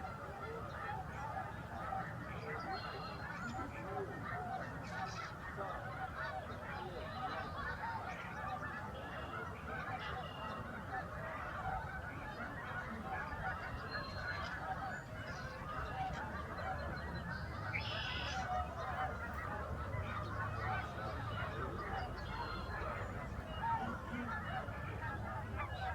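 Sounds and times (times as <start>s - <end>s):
flock of geese honking: 0.0s - 25.9s
higher clearer goose calls: 0.0s - 25.9s.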